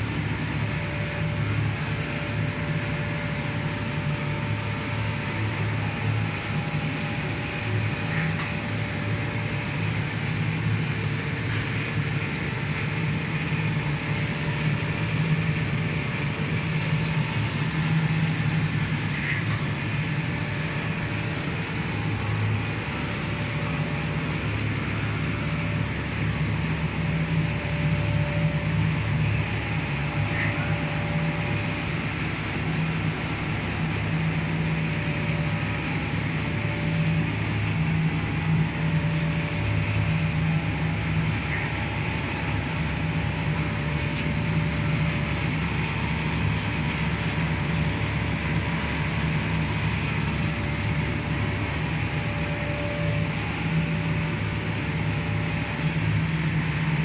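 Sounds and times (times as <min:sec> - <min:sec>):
machine noise with low hum: 0:00.0 - 0:57.0.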